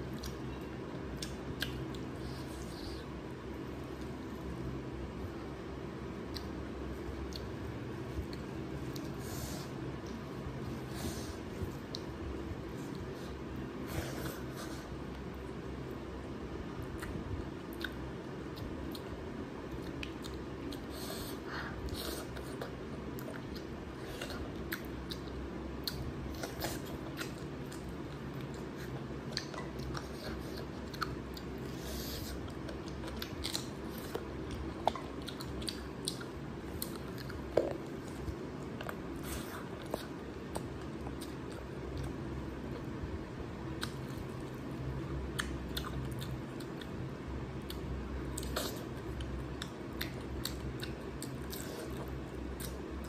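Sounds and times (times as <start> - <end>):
person chewing: 0.0 - 5.2, 6.2 - 15.5, 16.8 - 42.9, 43.7 - 47.0, 47.6 - 53.0
steady low hum: 0.0 - 53.0.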